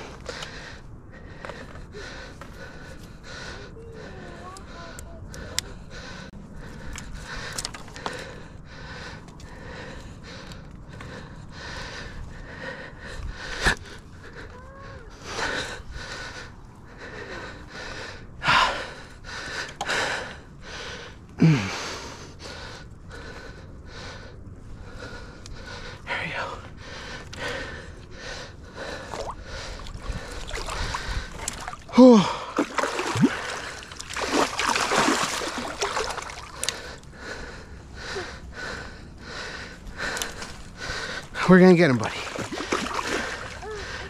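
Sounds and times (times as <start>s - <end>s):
man breathing heavily: 0.0s - 44.0s.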